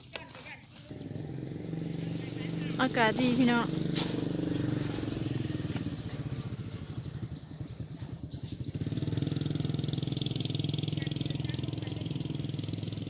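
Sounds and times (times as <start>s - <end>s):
walking tractor engine chugging: 0.0s - 13.0s.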